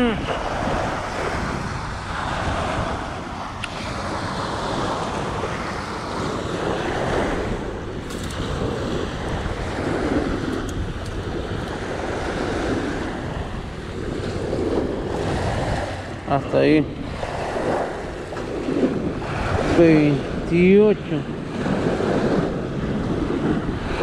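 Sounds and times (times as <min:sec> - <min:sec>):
waves washing onto shore: 0:00.0 - 0:24.0
wind buffeting microphone: 0:00.0 - 0:24.0.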